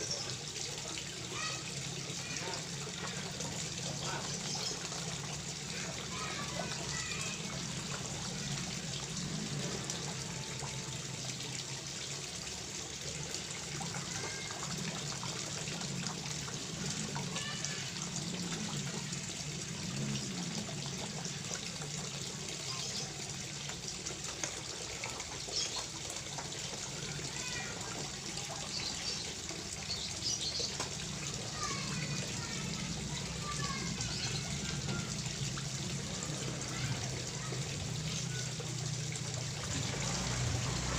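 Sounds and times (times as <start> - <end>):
pond water trickling and splashing: 0.0 - 40.9
small ticks and splashes: 0.0 - 40.9.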